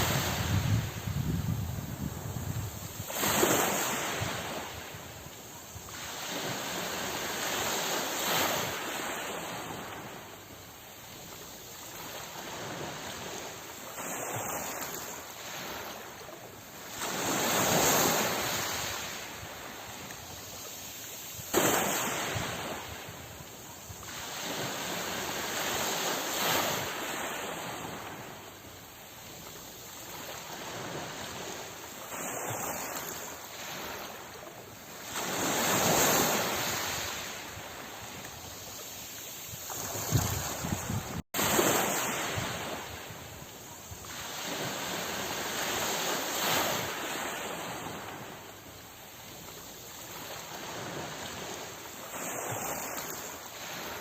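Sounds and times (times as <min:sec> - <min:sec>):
sea waves surging: 0:00.0 - 0:54.0.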